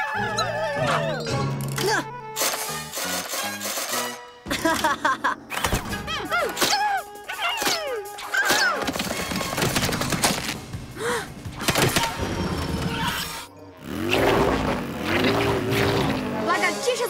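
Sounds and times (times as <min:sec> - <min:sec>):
cartoon action music: 0:00.0 - 0:17.0.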